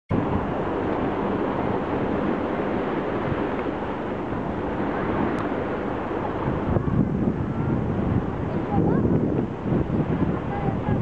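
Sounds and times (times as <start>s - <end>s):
sea surf rushing: 0.1s - 11.0s
wind buffeting microphone: 0.1s - 11.0s.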